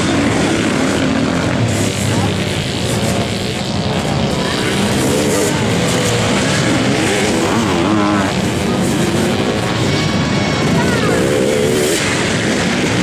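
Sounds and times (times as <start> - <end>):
motorcycle engines revving past: 0.0 - 13.0.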